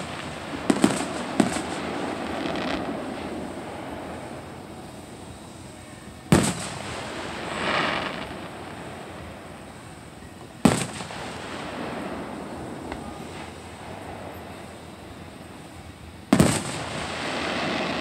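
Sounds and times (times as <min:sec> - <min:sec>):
distant firework booms: 0:00.0 - 0:05.4, 0:06.3 - 0:09.7, 0:10.6 - 0:14.7, 0:16.3 - 0:18.0
brief rushing hiss: 0:00.0 - 0:18.0.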